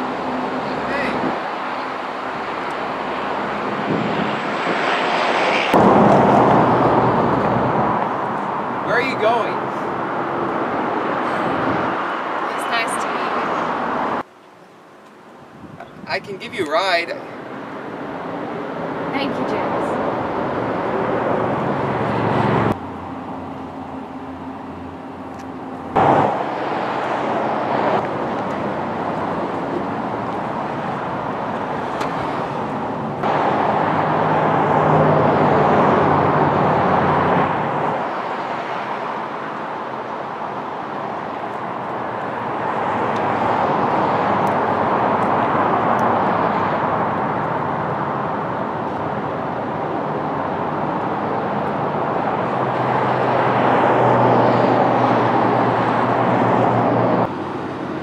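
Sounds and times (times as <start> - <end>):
passing vehicles hissing: 0.0 - 58.0.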